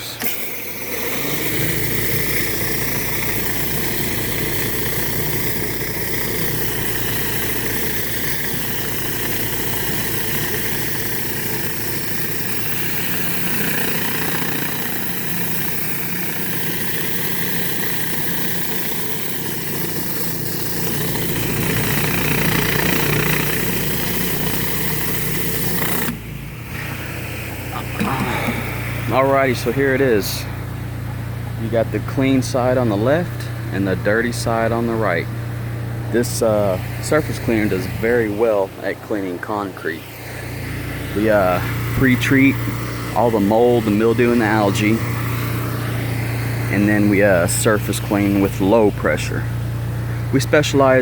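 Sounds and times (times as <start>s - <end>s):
pressure washer engine hum: 0.0s - 51.0s
water spraying on concrete: 0.0s - 51.0s.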